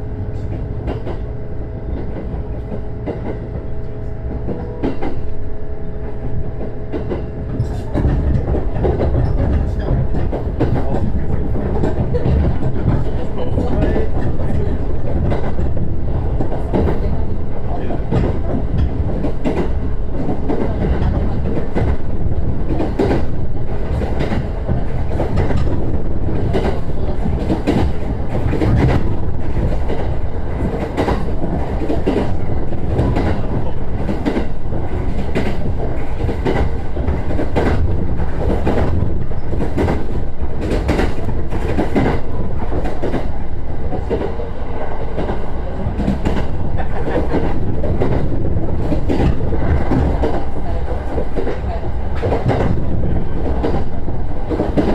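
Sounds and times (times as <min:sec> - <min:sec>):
electric train rumbling: 0:00.0 - 0:54.9
wheels clacking over rail joints: 0:06.0 - 0:54.9.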